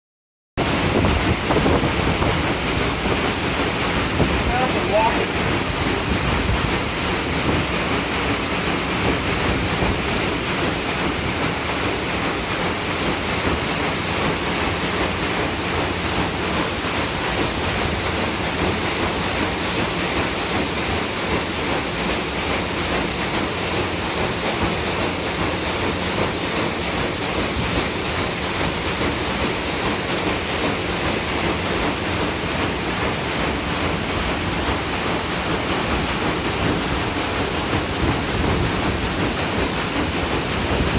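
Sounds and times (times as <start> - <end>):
paddle wheel churning water: 0.6 - 40.9.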